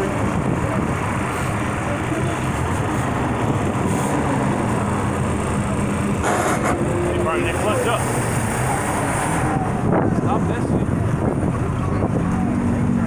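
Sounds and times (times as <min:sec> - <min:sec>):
outdoor noise: 0:00.0 - 0:13.0
vehicle engine running: 0:00.0 - 0:13.0.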